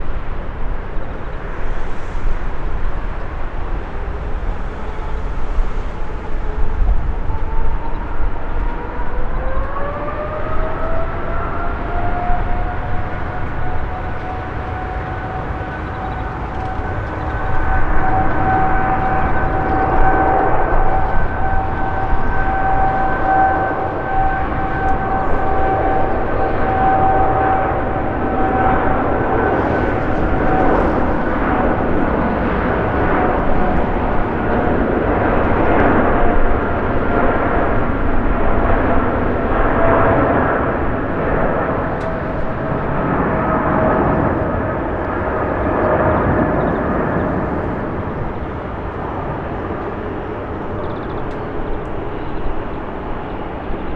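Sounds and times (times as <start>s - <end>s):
high fan whine: 0.0s - 53.9s
jet engines roaring: 0.0s - 53.9s.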